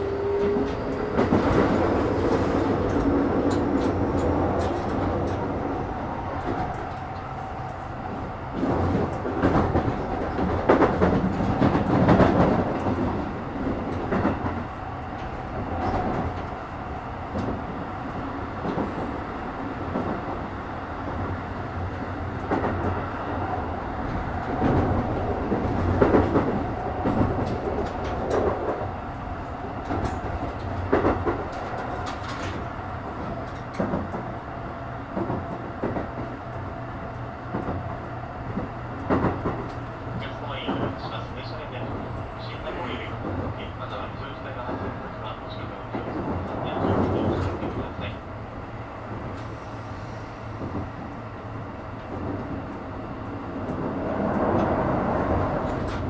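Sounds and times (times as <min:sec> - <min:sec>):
electric train rolling rumble: 0:00.0 - 0:56.0.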